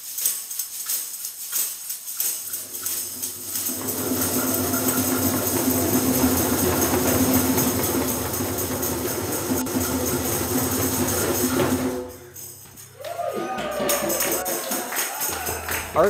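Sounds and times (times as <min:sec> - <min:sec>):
shakers rattling: 0:00.0 - 0:16.0
hand drums: 0:02.2 - 0:16.0.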